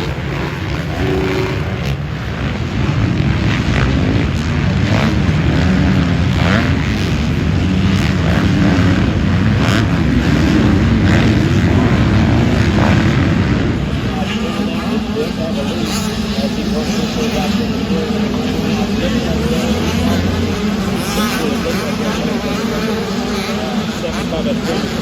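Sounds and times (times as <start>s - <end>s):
motocross engines revving: 0.0s - 25.0s.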